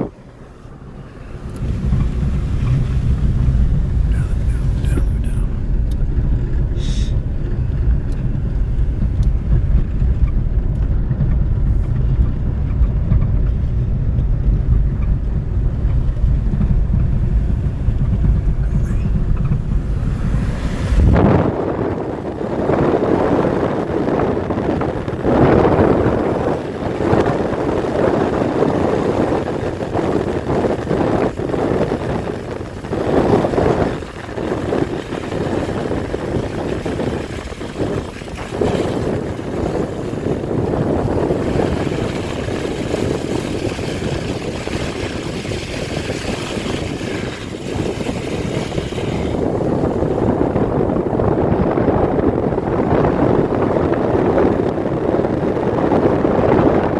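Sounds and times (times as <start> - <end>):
car road rumble: 0.0 - 56.9
wind buffeting microphone: 0.0 - 56.9.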